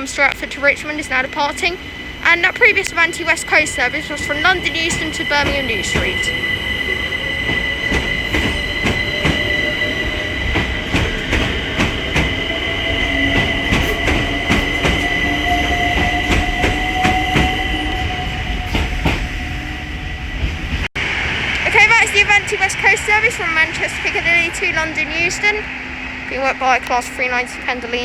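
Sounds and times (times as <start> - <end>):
electric train traction whine: 0.0 - 28.0.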